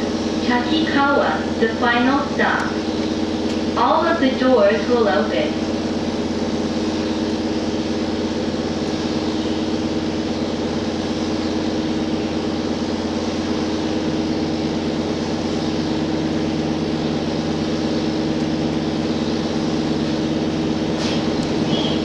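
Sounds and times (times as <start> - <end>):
rail rolling noise: 0.0 - 22.0
railcar engine hum: 0.0 - 22.0.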